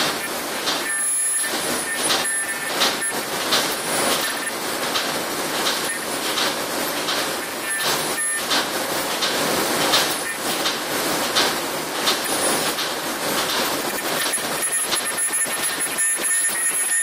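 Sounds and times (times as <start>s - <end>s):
machine mechanical clatter: 0.0s - 17.0s.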